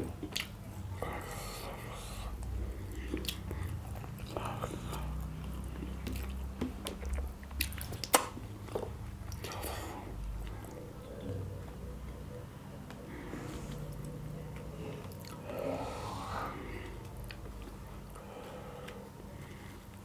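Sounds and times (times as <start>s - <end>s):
chewing and lip smacks: 0.0s - 1.2s, 1.9s - 15.6s, 16.7s - 20.0s.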